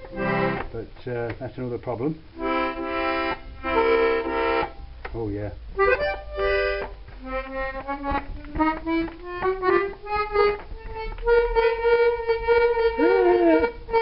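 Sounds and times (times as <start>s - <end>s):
accordion notes: 0.0s - 0.9s, 2.1s - 5.0s, 5.7s - 14.0s.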